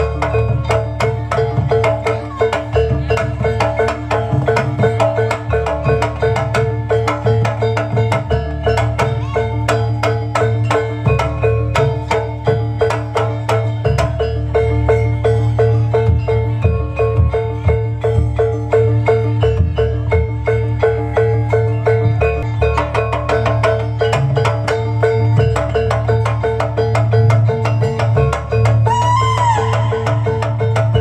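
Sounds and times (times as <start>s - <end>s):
drums: 0.0s - 31.0s
struck mallet percussion: 0.0s - 31.0s.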